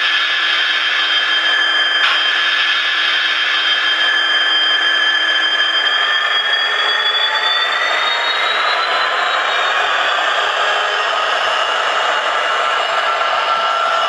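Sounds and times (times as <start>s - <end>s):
model train motor whine: 0.0s - 14.0s
recorded diesel engine sound: 0.0s - 14.0s.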